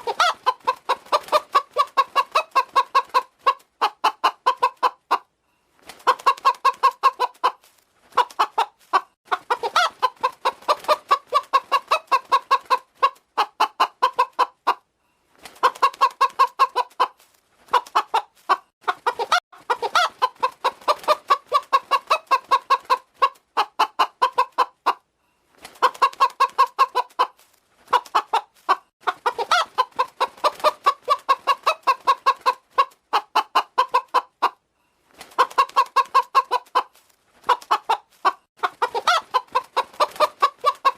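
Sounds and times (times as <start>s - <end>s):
hen clucking: 0.0s - 14.9s, 15.5s - 25.1s, 25.8s - 34.6s, 35.2s - 40.9s.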